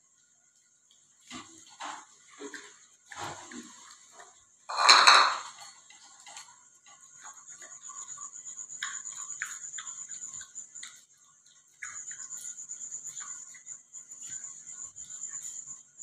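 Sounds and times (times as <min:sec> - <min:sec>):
steady high-pitched whine: 0:00.0 - 0:16.0.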